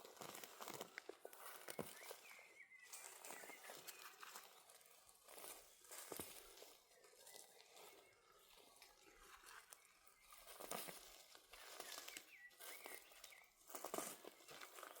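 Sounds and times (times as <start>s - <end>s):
faint rustling and crunching: 0.0s - 15.0s.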